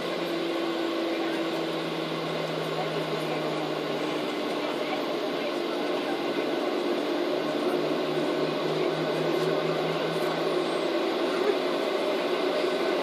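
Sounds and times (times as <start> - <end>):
airliner engines and air conditioning: 0.0 - 13.0.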